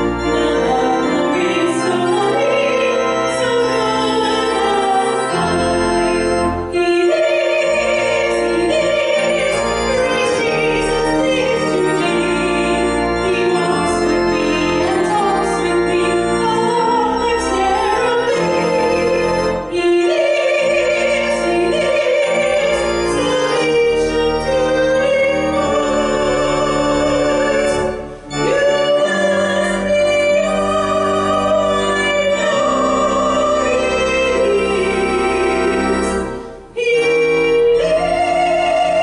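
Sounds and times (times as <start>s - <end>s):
woman singing a hymn: 0.0s - 5.8s, 6.6s - 39.0s
sustained organ chords: 0.0s - 39.0s.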